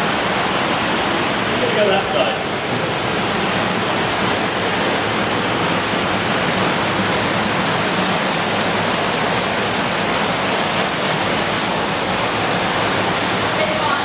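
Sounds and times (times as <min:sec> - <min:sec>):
rushing water near a waterfall: 0:00.0 - 0:14.0.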